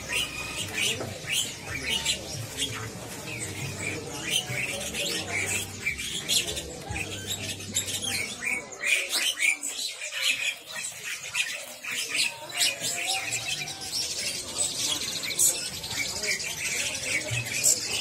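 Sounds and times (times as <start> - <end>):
songbirds chirping and calling: 0.0 - 18.0.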